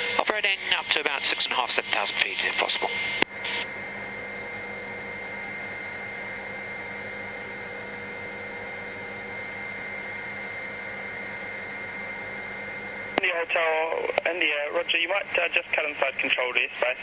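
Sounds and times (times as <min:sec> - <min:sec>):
helicopter cabin drone: 0:00.0 - 0:17.0.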